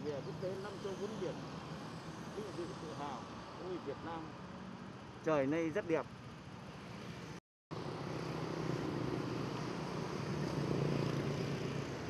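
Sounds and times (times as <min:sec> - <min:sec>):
passing vehicle engines: 0:00.0 - 0:12.0.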